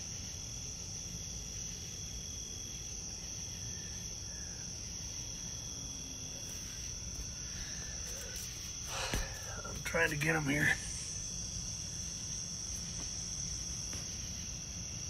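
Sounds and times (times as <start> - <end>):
insects ringing drone: 0.0 - 15.0.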